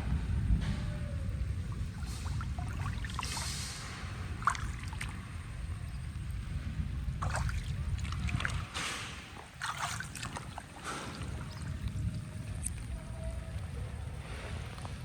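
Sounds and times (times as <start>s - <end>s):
steady low rumble: 0.0s - 15.0s
water splashing and sloshing: 1.4s - 13.7s.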